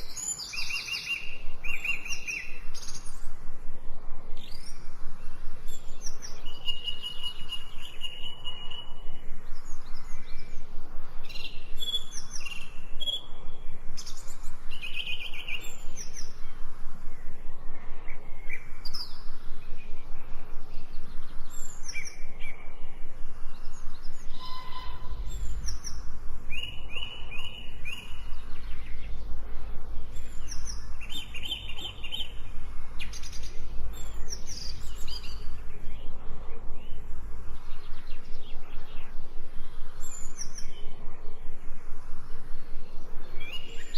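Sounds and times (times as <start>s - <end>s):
songbirds singing and chirping: 0.0s - 43.9s.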